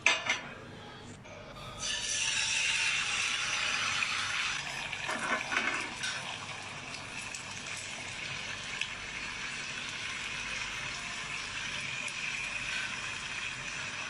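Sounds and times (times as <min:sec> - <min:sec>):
water running into a pot: 0:01.8 - 0:14.0.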